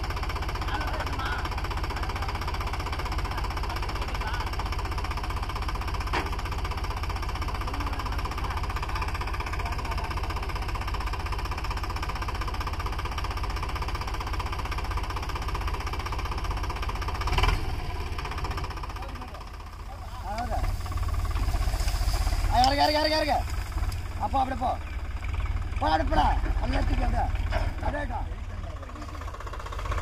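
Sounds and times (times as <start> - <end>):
tractor diesel engine chugging: 0.0 - 30.0.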